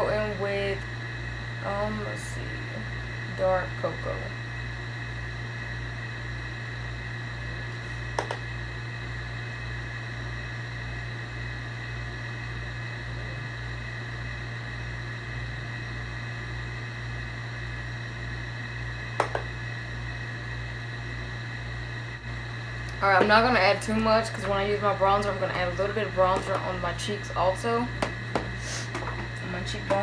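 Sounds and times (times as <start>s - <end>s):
machine hum with low throb: 0.0s - 30.0s.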